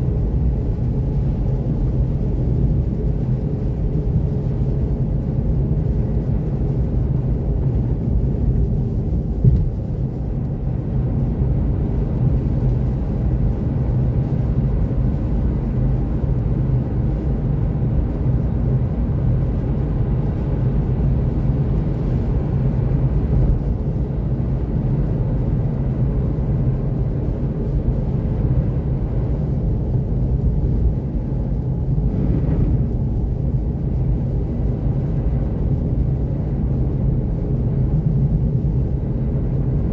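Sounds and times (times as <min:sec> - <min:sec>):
road and wind noise: 0:00.0 - 0:39.9.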